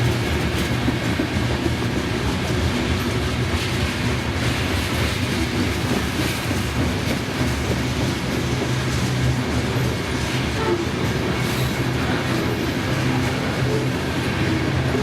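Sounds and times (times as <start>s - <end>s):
train wheels clacking on rails: 0.0s - 15.0s.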